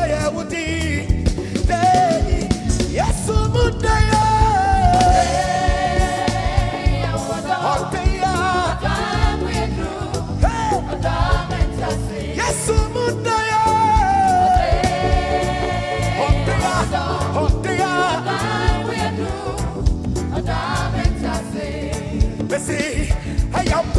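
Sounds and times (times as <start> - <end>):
band with bass and drums: 0.0 - 23.9.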